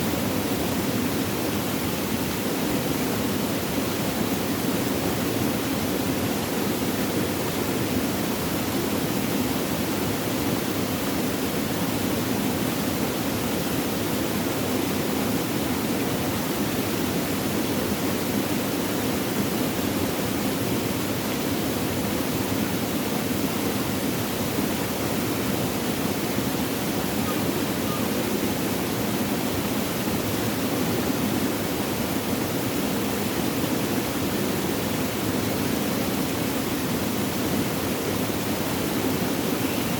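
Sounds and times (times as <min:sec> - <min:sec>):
water rushing: 0:00.1 - 0:39.9.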